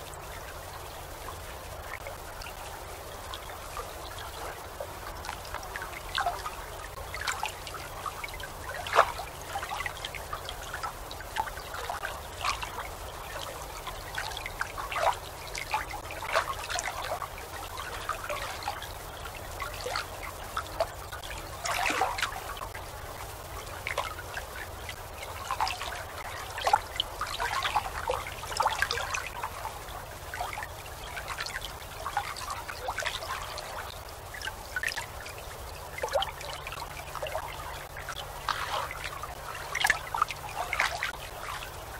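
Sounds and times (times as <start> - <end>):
faint low hum: 0.0 - 41.9
water lapping and trickling: 0.0 - 41.9.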